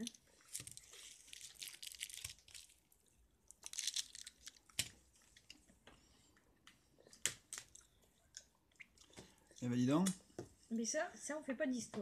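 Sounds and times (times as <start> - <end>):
faint crackling and crunching: 0.0 - 10.6.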